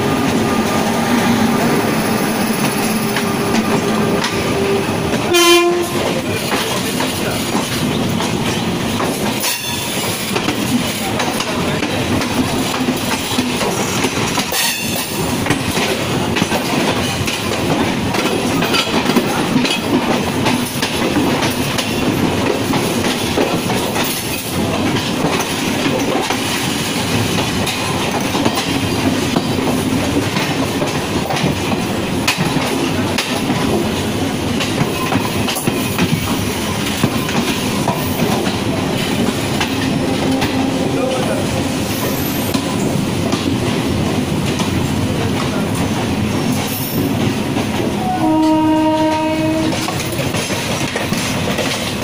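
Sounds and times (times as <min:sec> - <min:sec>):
train running noise: 0:00.0 - 0:52.0.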